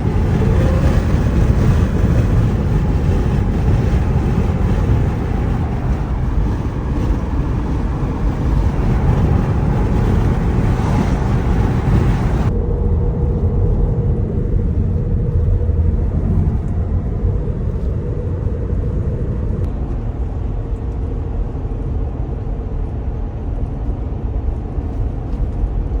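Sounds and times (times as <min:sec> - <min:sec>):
road and tyre rumble: 0:00.0 - 0:26.0.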